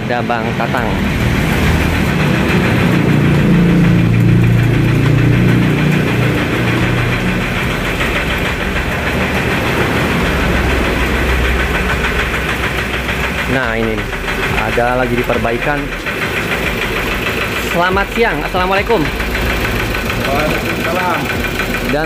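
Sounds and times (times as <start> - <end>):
vehicle engine idling with knocking: 0.0 - 22.0.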